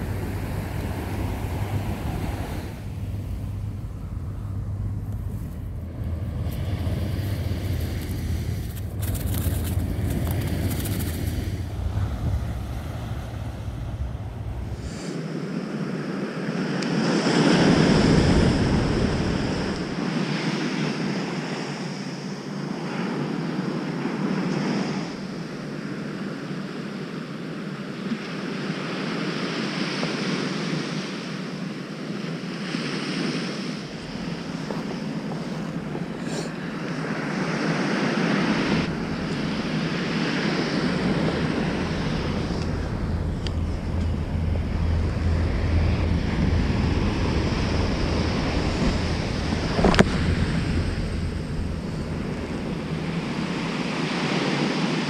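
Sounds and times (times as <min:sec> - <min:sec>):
waves breaking on beach: 0:00.0 - 0:55.0
wind rumble on microphone: 0:00.0 - 0:55.0.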